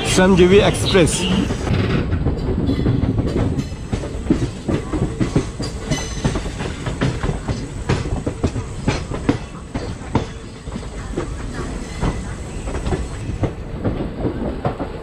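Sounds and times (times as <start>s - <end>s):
low train rumble: 0.0s - 15.0s
train wheels clattering: 0.0s - 15.0s.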